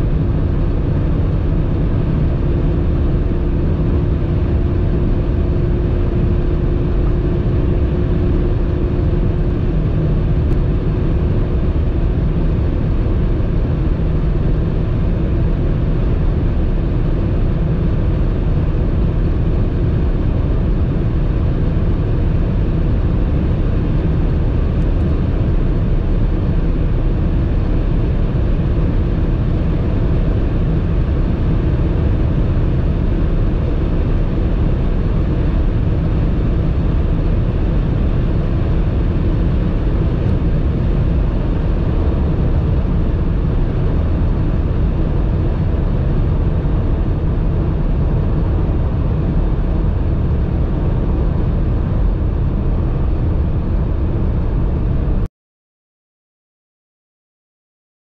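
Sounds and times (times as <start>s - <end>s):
car engine drone inside cabin: 0.0s - 55.3s
wind noise: 0.0s - 55.3s.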